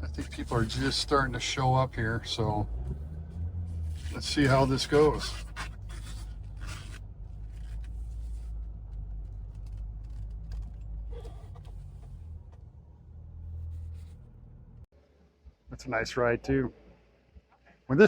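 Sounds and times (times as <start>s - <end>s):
car engine running at low revs: 0.0s - 14.9s.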